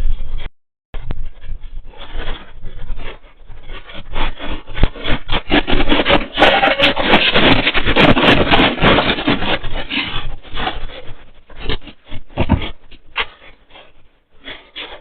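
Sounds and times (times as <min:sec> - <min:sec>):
house rattling and creaking: 0:01.7 - 0:15.0.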